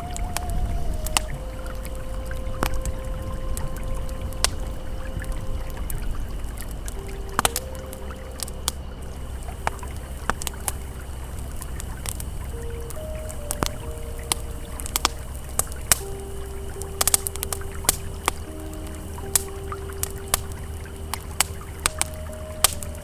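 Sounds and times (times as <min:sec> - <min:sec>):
campfire crackling and popping: 0:00.0 - 0:23.0
river flowing: 0:00.0 - 0:23.0
soft ambient tones: 0:00.0 - 0:23.0.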